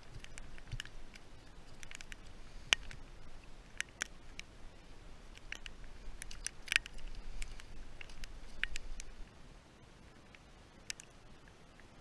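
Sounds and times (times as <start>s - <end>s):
handling clicks and crunches: 0.0s - 4.5s, 5.2s - 9.2s, 10.3s - 11.9s.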